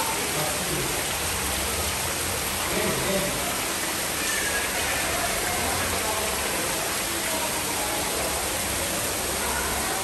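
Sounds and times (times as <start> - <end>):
faint murmur of voices: 0.0 - 10.0
running water hiss: 0.0 - 10.0.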